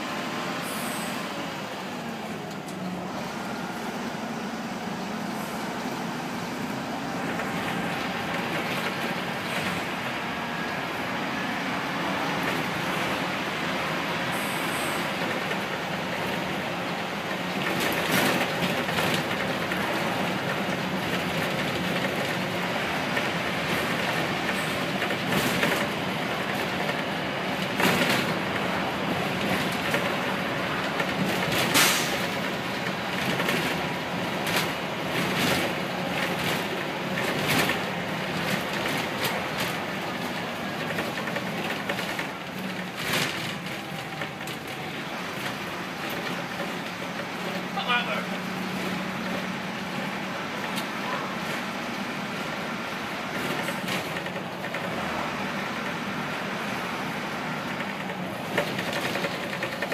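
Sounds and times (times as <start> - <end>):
bus diesel engine running: 0.0 - 59.9
bus body knocks and rattles: 7.0 - 10.3, 12.3 - 14.2, 15.0 - 51.8, 52.4 - 56.4, 57.0 - 59.9.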